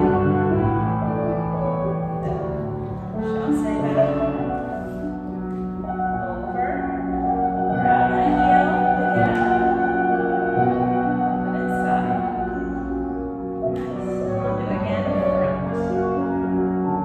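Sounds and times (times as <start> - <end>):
slow instrumental music: 0.0 - 17.0.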